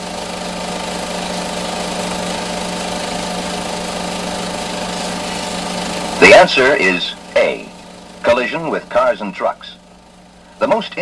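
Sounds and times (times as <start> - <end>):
film projector running: 0.0 - 11.0.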